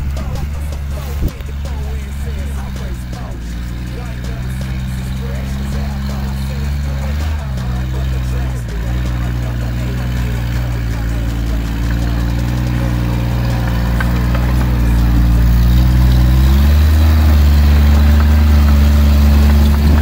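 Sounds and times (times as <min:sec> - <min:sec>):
diesel engine running at low revs: 0:00.0 - 0:20.0.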